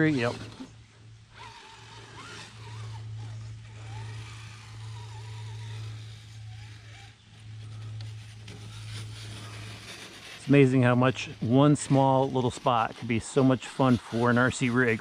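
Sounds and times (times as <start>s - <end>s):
electric motor and gears whirring: 0.0s - 15.0s.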